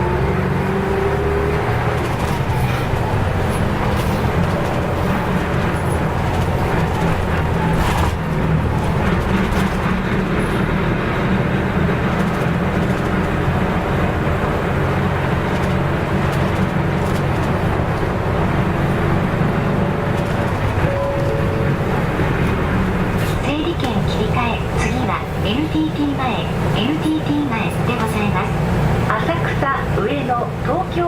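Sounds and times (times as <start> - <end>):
bus diesel engine: 0.0 - 31.0
road noise: 0.0 - 31.0.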